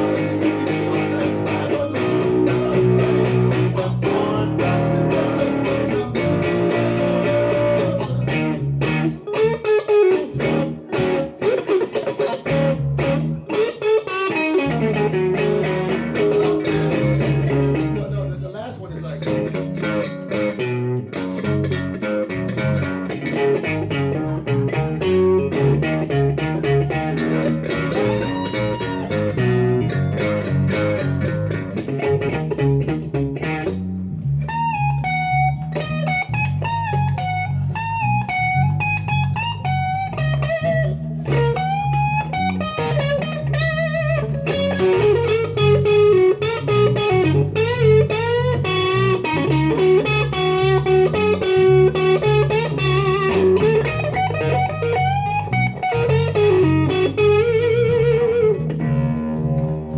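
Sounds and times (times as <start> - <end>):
electric bass line: 0.0 - 59.9
electric guitar playing blues-rock: 0.0 - 59.9.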